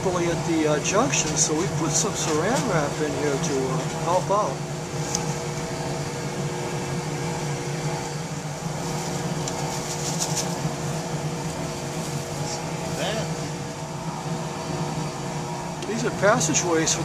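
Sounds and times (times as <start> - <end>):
motor hum: 0.0 - 17.0.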